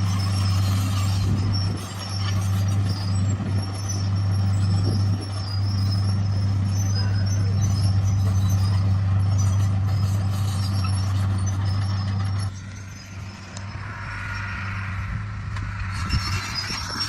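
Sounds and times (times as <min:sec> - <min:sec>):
mechanical grinding noise: 0:00.0 - 0:13.8
bulldozer diesel engine running: 0:00.0 - 0:17.0.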